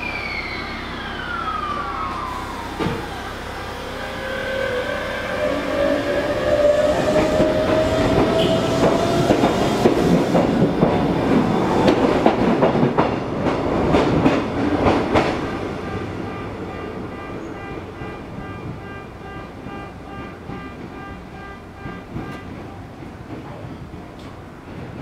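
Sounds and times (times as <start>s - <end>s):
train motor whine: 0.0s - 24.4s.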